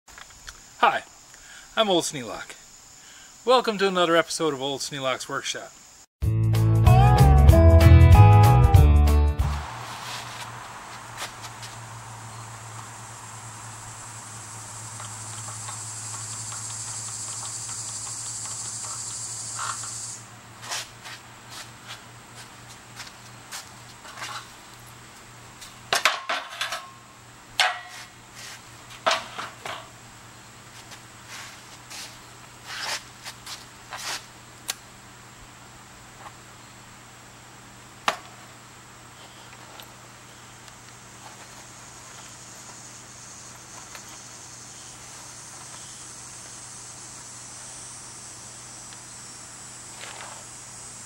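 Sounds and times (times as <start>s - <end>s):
insects chorus: 0.1s - 6.1s, 9.5s - 51.0s.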